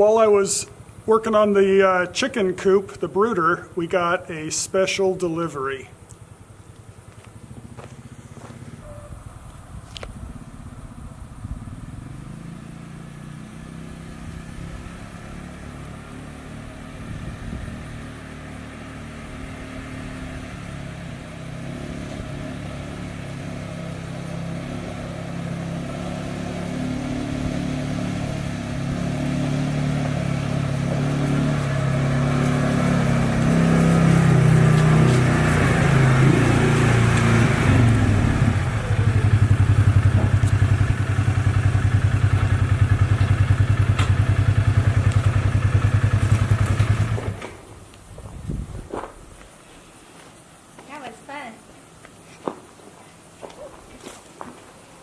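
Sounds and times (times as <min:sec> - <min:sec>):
vehicle engine approaching: 0:00.0 - 0:47.9.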